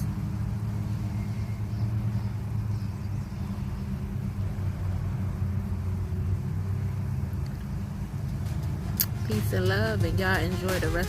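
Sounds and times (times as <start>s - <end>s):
vehicle motor rumble: 0.0s - 11.0s.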